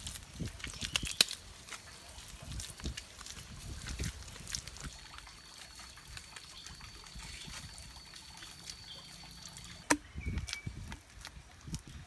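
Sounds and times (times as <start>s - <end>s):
hands squelching wet clay: 0.0s - 12.0s
muddy water trickling and dripping: 0.0s - 12.0s.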